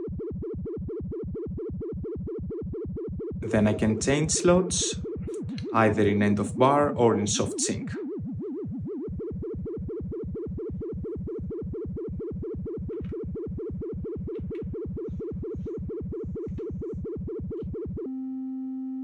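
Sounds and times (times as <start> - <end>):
wobbling synthesizer tone: 0.0 - 19.0.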